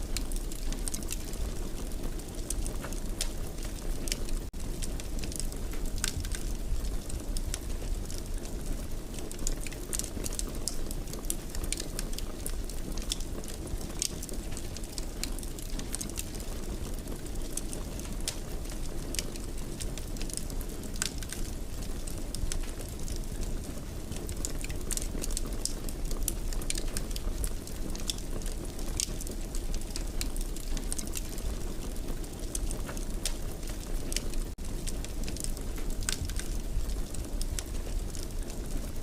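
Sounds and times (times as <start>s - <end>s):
low rumble of flame: 0.0s - 39.0s
fire pops and snaps: 0.1s - 39.0s.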